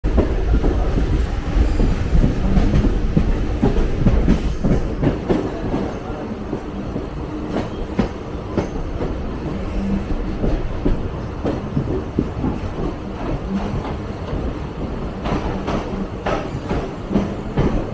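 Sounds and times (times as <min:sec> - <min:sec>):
train rumbling on track: 0:00.0 - 0:17.9.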